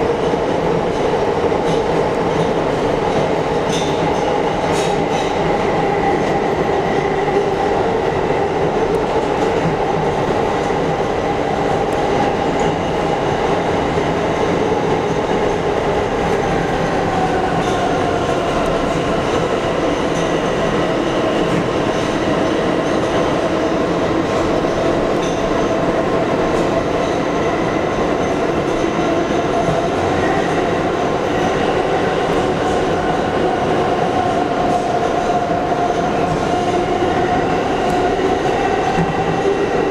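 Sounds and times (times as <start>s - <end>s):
subway train wheels rumbling: 0.0s - 39.9s
train whine: 0.0s - 39.9s.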